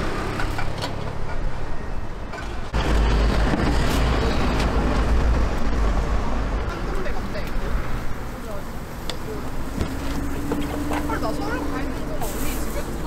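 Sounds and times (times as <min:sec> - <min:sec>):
city street traffic rumble: 0:00.0 - 0:13.0.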